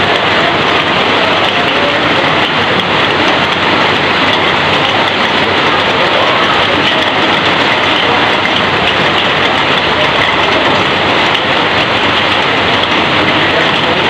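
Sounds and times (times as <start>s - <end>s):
heavy rain on metal roofing: 0.0s - 14.0s
water pouring off roof edge: 0.0s - 14.0s.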